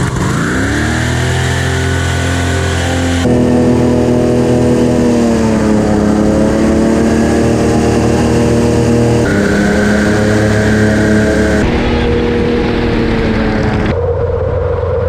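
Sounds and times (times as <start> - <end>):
airboat engine and propeller: 0.0 - 15.0.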